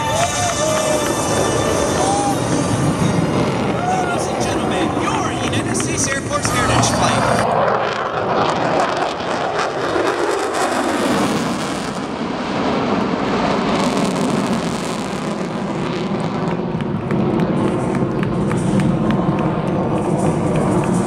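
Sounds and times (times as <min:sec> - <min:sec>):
jet engines roaring in afterburner: 0:00.0 - 0:21.0.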